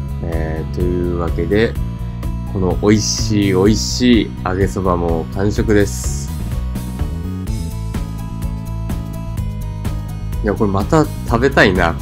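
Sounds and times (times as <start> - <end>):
background music with light beat: 0.0 - 12.0.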